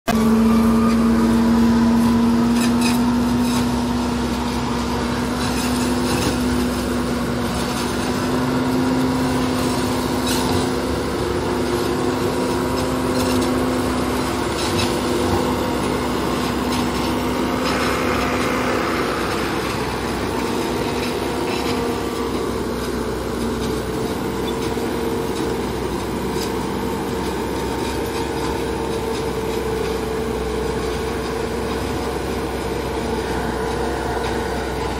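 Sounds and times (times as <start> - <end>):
farm machinery engine droning: 0.1 - 34.9.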